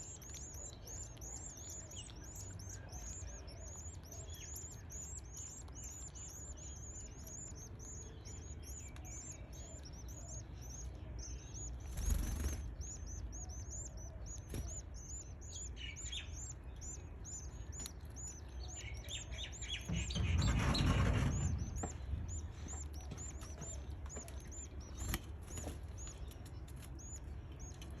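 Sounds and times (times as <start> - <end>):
nestlings peeping: 0.0 - 28.0.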